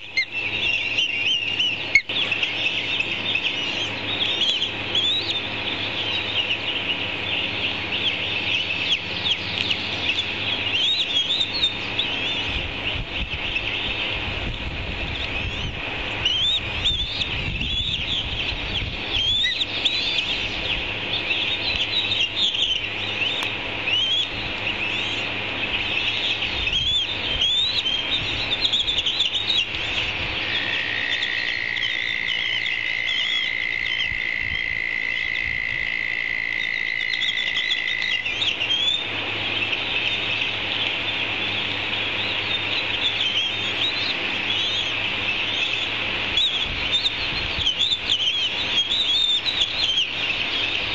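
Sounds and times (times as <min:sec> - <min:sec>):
chorus of high chirping calls: 0:00.0 - 0:14.1, 0:15.1 - 0:50.9.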